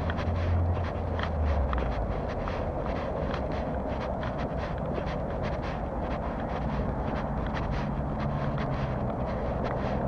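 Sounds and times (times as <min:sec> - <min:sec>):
footsteps of person walking: 0:00.0 - 0:10.0.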